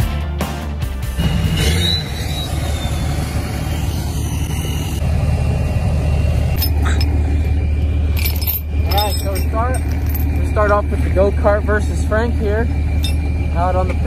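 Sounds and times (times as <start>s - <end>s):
large vehicle engine rumbling: 0.0s - 14.0s.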